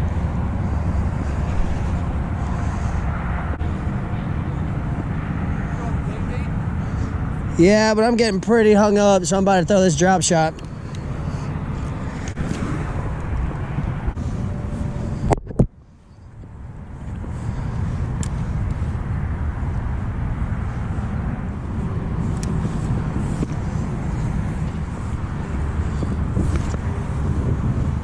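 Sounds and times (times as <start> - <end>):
highway traffic rumble: 0.0 - 28.0.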